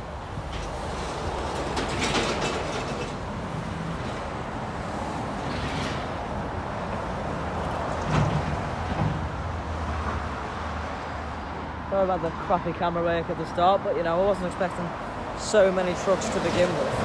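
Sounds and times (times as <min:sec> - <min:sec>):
heavy vehicle rumble: 0:00.0 - 0:17.0.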